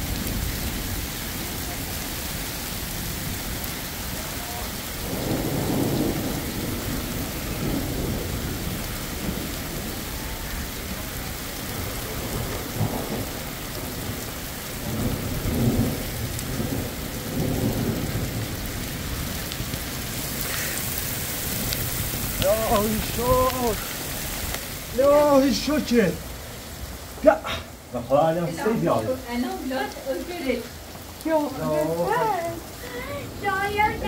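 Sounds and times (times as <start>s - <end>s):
thunder rumbling: 0.0s - 27.9s, 28.5s - 34.0s
steady rain falling: 0.0s - 34.0s.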